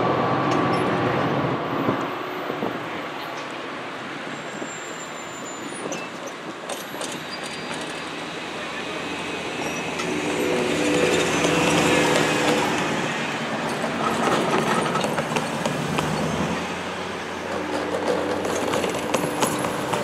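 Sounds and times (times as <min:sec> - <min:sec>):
vehicles driving over rail crossing: 0:00.0 - 0:20.0.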